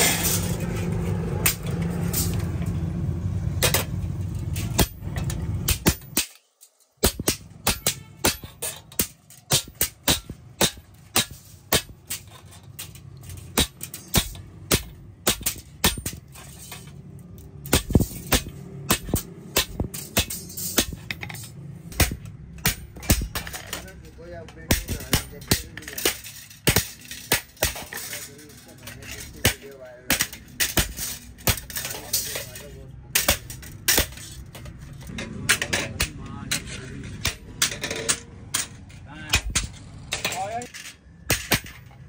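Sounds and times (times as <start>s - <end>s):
hammer strikes on hot metal: 0.0s - 2.6s, 4.6s - 6.4s, 7.0s - 34.7s, 35.4s - 38.7s, 39.3s - 41.9s.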